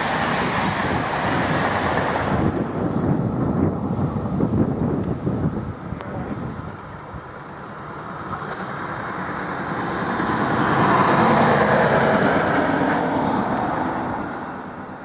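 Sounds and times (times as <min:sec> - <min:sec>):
train passing by: 0:00.0 - 0:15.0.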